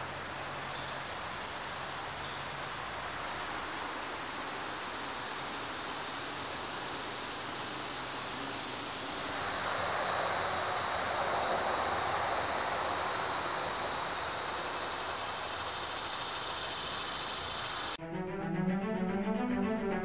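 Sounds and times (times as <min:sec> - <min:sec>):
high insect chorus: 0:00.0 - 0:18.0
rushing hiss: 0:00.0 - 0:18.0.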